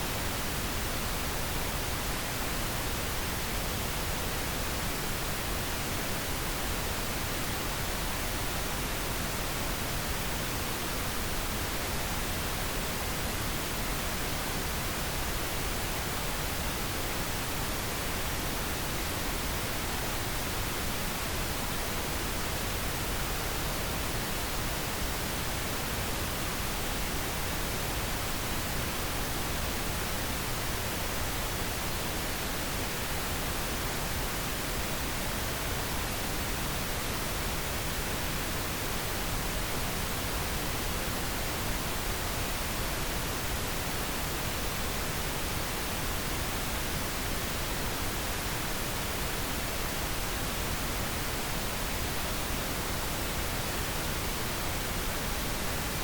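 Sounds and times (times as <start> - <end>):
steady pink noise: 0.0 - 56.0.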